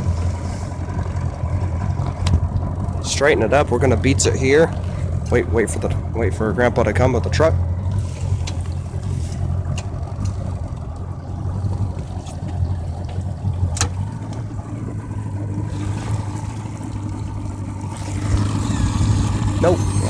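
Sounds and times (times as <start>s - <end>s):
outboard motor humming: 0.0s - 20.0s.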